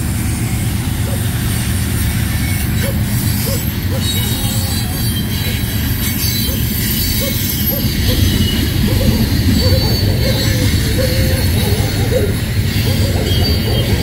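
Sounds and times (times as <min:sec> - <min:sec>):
high wheel squeal: 0:00.0 - 0:14.0
train wheels rumbling on rail: 0:00.0 - 0:14.0.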